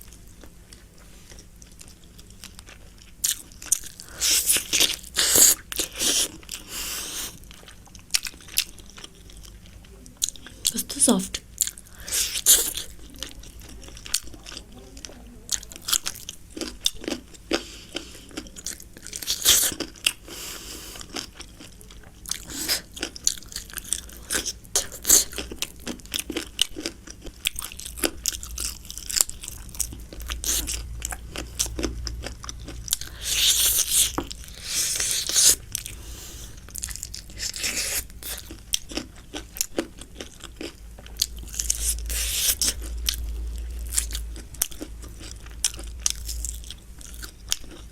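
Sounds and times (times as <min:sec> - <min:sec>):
person chewing food: 0:00.0 - 0:10.8, 0:11.4 - 0:47.9.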